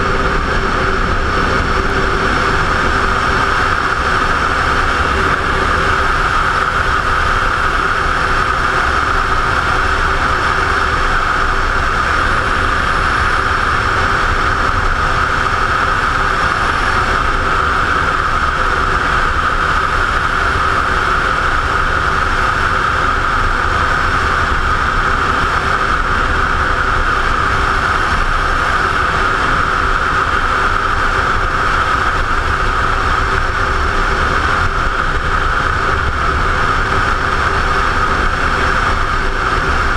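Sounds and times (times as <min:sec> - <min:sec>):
motorcycle engine drone: 0:00.0 - 0:39.9
wind rush over helmet: 0:00.0 - 0:39.9.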